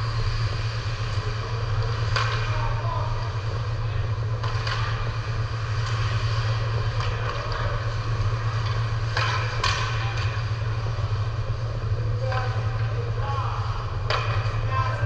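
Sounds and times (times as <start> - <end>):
steady low hum: 0.0 - 15.0
stick and puck clacks: 0.0 - 15.0.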